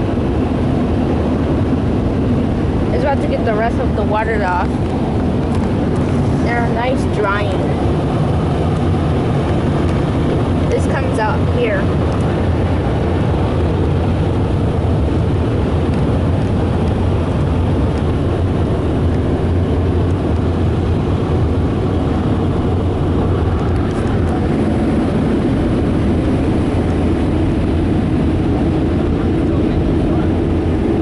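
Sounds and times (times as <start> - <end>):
car wash air dryers blowing: 0.0 - 31.0
low hum: 0.0 - 31.0.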